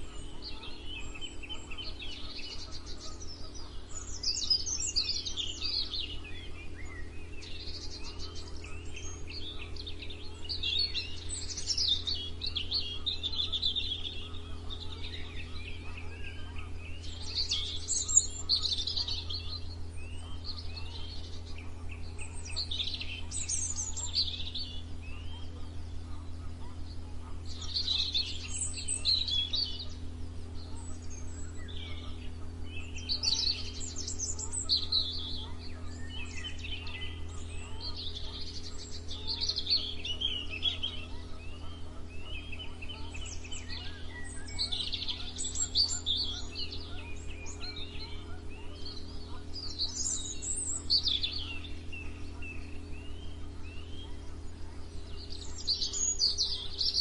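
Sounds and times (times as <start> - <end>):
songbirds chirping and trilling: 0.0 - 57.0
steady low hum: 0.0 - 57.0.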